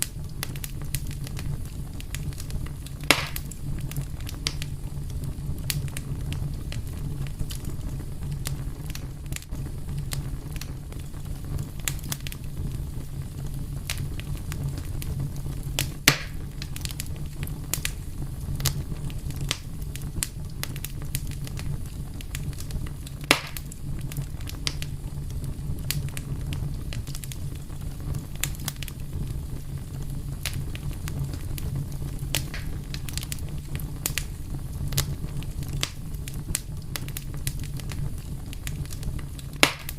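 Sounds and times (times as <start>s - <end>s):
fire crackling: 0.0s - 39.9s
sharp pops from fire: 0.0s - 39.9s.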